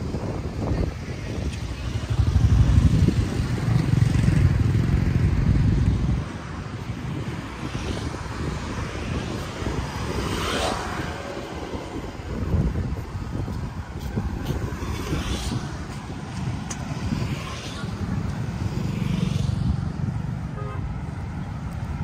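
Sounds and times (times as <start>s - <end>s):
road traffic: 0.0s - 22.0s
wind buffeting microphone: 0.0s - 22.0s
vehicle passing: 0.2s - 22.0s.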